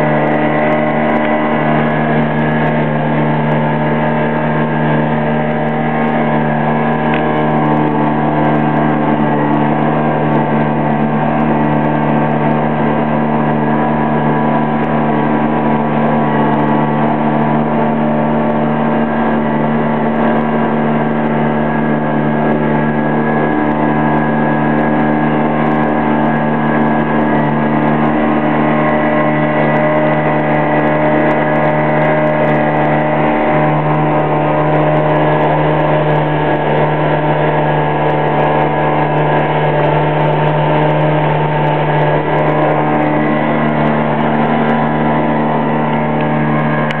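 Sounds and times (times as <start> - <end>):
motorboat engine droning: 0.0 - 47.0.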